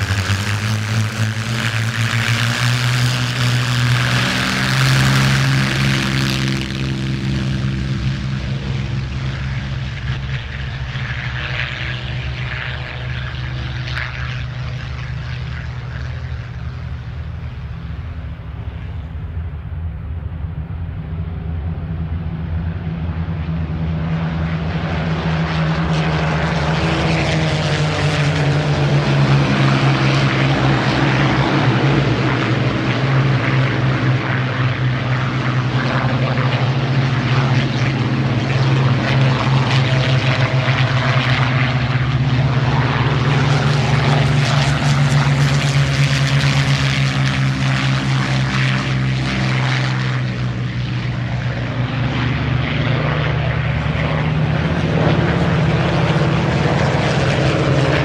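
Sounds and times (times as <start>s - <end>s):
propeller aircraft engines droning: 0.0s - 58.0s.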